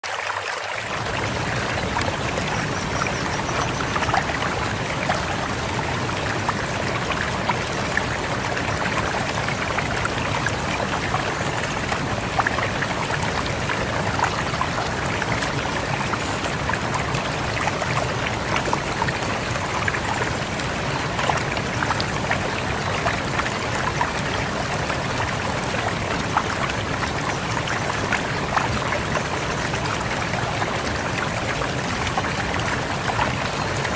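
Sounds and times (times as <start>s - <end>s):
river water rushing over rocks: 0.0s - 33.9s.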